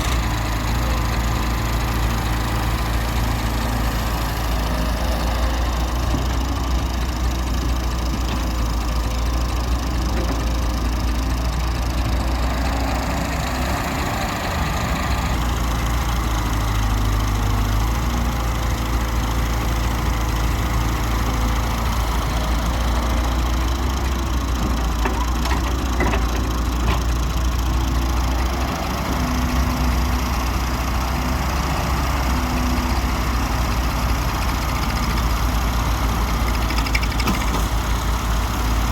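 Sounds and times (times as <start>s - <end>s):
diesel excavator and tractor droning: 0.0s - 38.9s.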